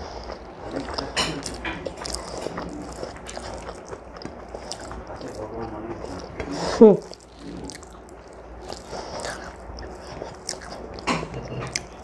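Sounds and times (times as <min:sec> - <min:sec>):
person chewing with wet smacks: 0:00.0 - 0:12.0
fingers mixing food on plate: 0:00.7 - 0:12.0.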